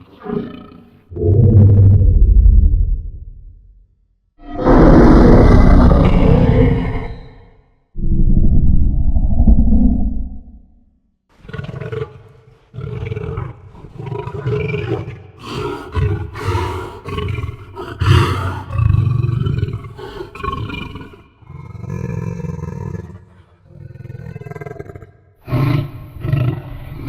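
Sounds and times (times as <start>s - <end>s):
creature growls and roars: 0.0s - 3.2s, 4.4s - 10.5s, 11.4s - 27.0s.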